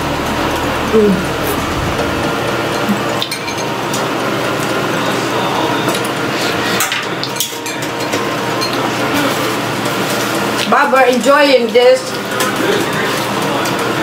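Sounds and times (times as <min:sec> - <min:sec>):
steady background noise: 0:00.0 - 0:14.0
utensils clinking against bowls: 0:02.6 - 0:14.0.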